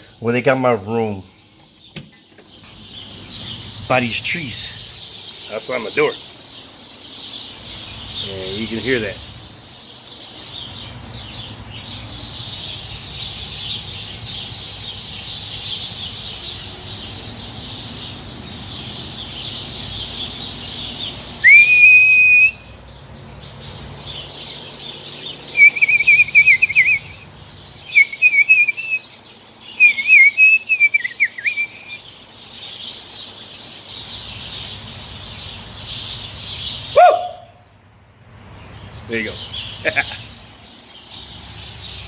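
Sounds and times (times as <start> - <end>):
birds chirping chorus: 0.0 - 42.0.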